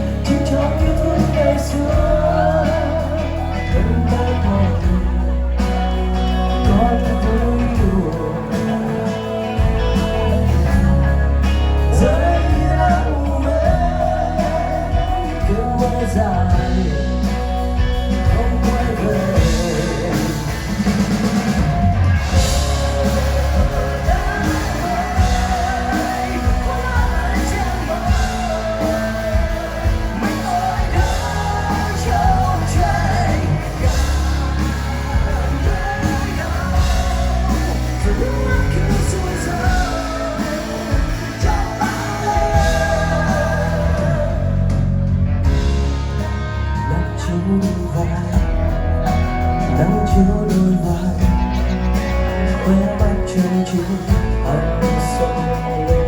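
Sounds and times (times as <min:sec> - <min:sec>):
person singing: 0:00.0 - 0:56.0
rock band playing: 0:00.0 - 0:56.0.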